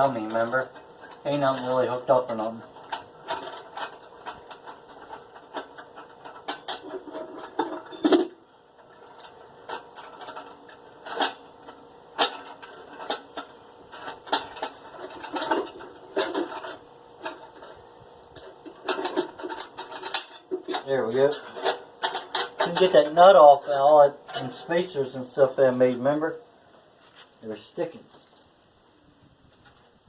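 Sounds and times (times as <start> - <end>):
metal parts and tools clinking: 0.0 - 26.0, 27.3 - 29.0.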